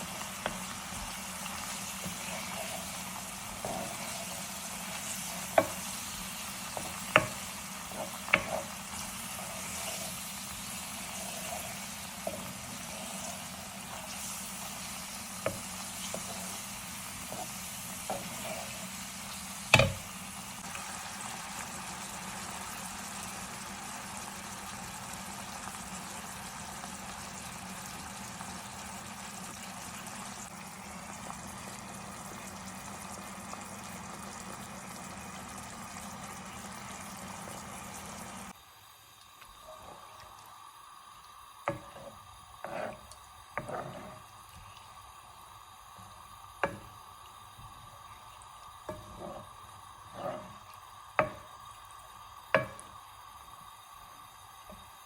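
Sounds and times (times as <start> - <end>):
liquid hissing in a pan: 0.0 - 55.0.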